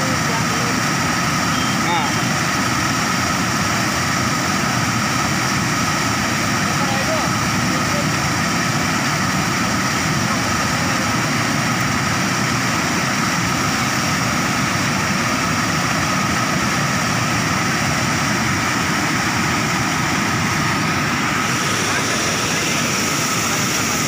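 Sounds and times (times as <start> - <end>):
water pouring over weir: 0.0 - 24.0.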